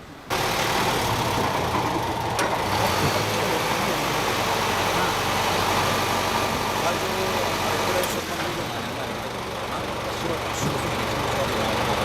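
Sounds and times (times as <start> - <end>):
engine idling: 0.3 - 12.0.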